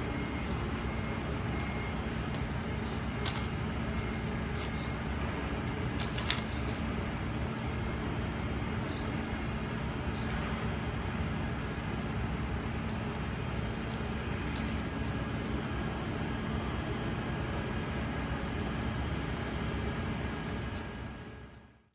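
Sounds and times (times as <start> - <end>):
constant hum: 0.0 - 21.9
low urban rumble: 0.0 - 21.9.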